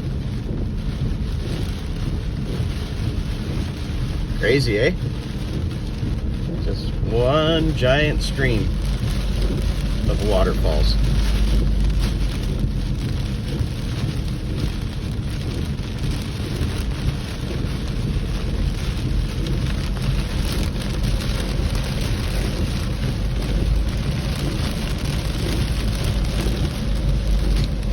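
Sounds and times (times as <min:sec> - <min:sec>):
deep low rumble: 0:00.0 - 0:27.9
heavy water rushing: 0:00.0 - 0:27.9.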